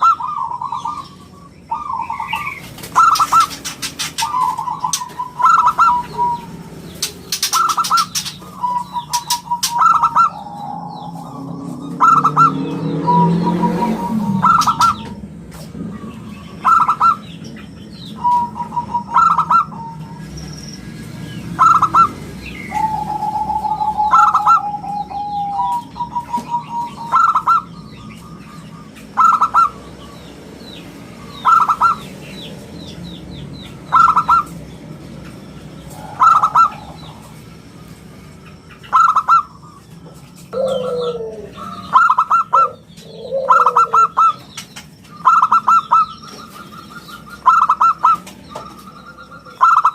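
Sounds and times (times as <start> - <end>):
dove cooing: 0.0 - 17.4, 18.2 - 20.4, 21.4 - 30.4, 31.2 - 32.2, 33.9 - 34.5, 35.7 - 37.9, 38.9 - 39.8, 40.5 - 44.6, 45.2 - 49.9.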